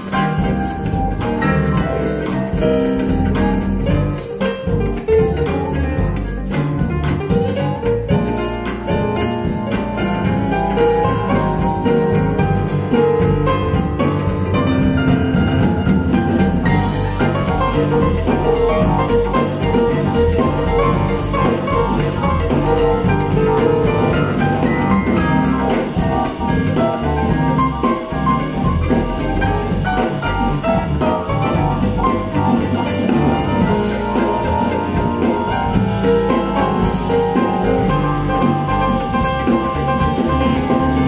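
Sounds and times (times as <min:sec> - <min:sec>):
jazz with piano and drums: 0:00.0 - 0:41.0.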